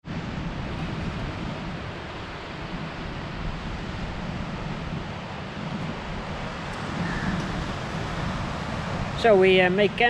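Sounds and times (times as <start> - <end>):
ocean surf: 0.0 - 10.0
wind buffeting microphone: 0.0 - 10.0.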